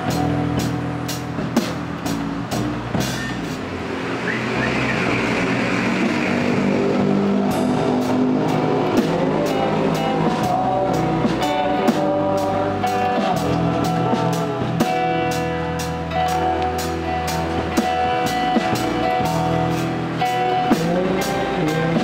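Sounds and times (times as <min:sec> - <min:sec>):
acoustic guitars strumming: 0:00.0 - 0:22.0
drums: 0:00.0 - 0:22.0.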